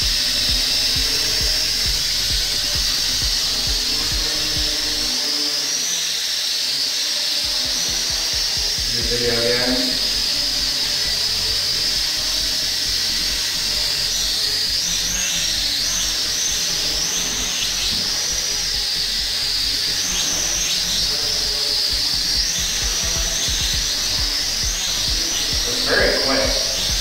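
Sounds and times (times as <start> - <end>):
toy drone propellers whining: 0.0 - 27.0.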